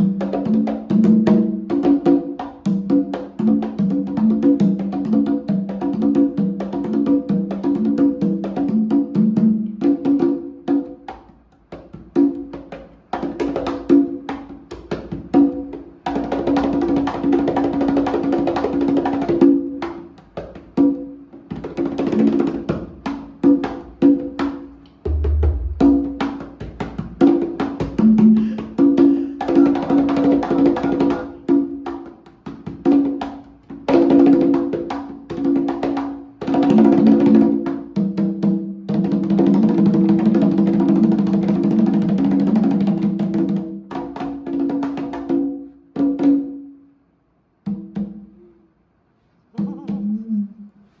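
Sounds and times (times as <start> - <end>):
fast conga roll: 0.0 - 46.6
congas played by hand: 0.0 - 46.9, 47.6 - 48.7, 49.5 - 50.6.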